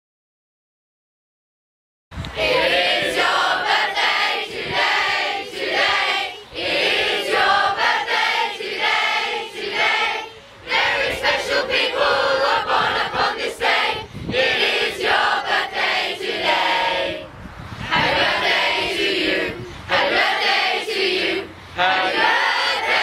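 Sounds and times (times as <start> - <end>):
children and adults singing in chorus: 2.3 - 23.0.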